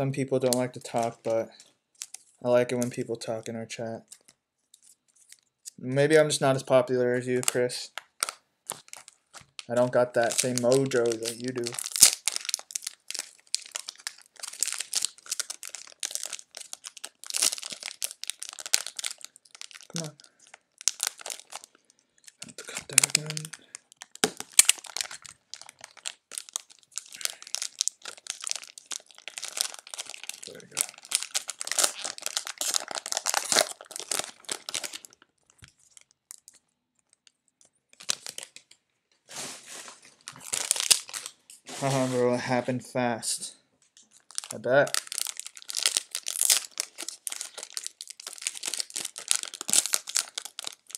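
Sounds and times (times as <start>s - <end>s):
cellophane wrapper crinkling: 0.4s - 3.0s, 4.0s - 5.6s, 7.2s - 42.1s, 43.8s - 50.9s.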